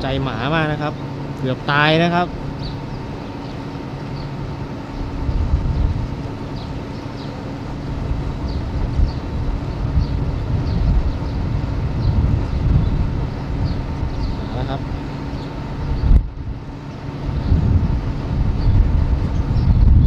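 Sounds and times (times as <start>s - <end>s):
engine hum: 0.0s - 20.0s
train rumble: 0.0s - 20.0s.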